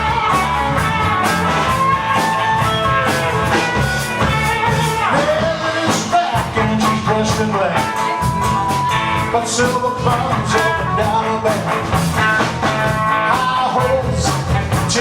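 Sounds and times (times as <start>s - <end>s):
electric guitar bent notes: 0.0s - 15.0s
rock band playing: 0.0s - 15.0s.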